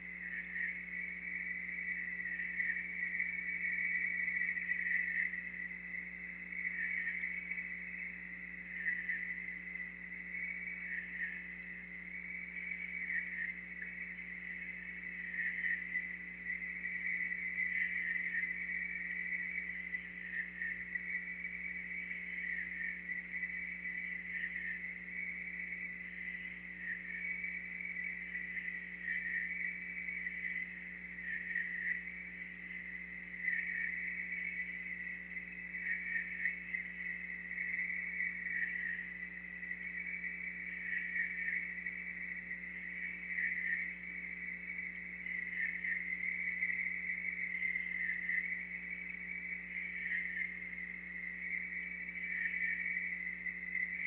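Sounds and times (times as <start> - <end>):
night insects chirping: 0.0 - 54.0
steady low hum: 0.0 - 54.0.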